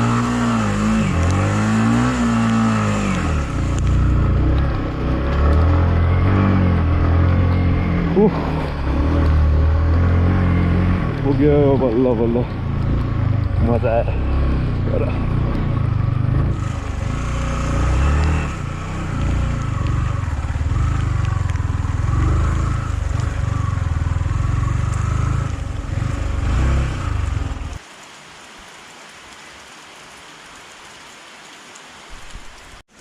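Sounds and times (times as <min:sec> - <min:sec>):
motorcycle engine running: 0:00.0 - 0:27.8
soft hiss of rain: 0:00.0 - 0:33.0.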